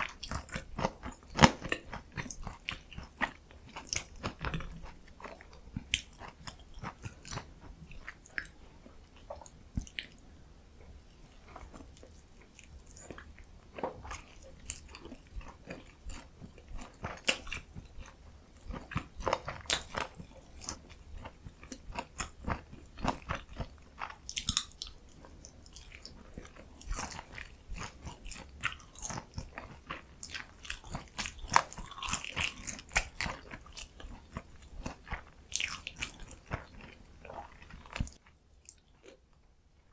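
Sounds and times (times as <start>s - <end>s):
person chewing food: 0.0s - 39.4s.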